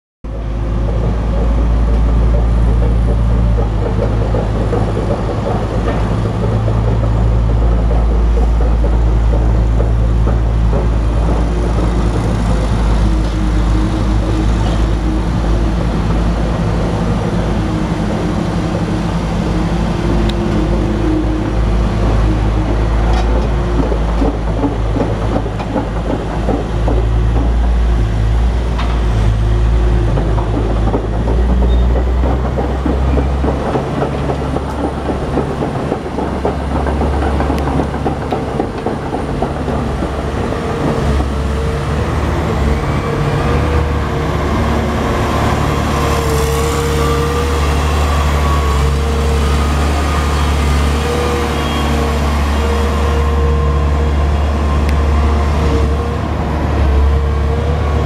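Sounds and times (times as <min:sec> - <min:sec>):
diesel engine drone: 0:00.3 - 0:58.0.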